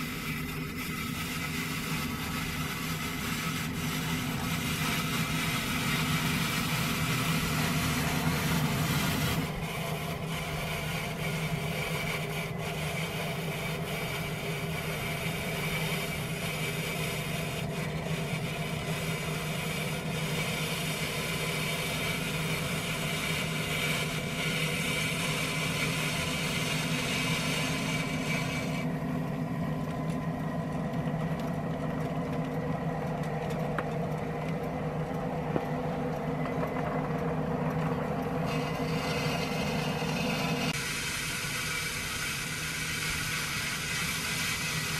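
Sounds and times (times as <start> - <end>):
engine hum: 0.0 - 44.9
snow plow scraping and rattling: 0.0 - 44.9.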